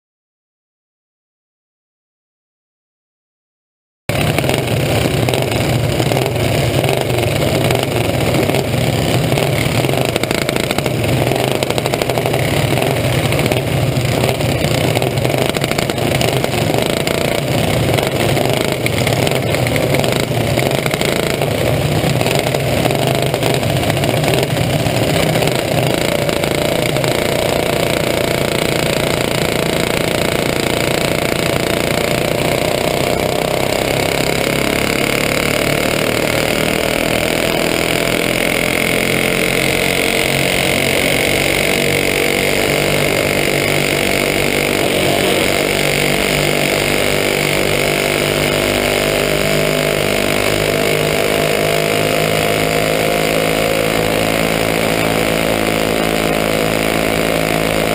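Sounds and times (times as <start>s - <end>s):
kart engine running: 4.1s - 57.9s
other karts running nearby: 4.1s - 57.9s.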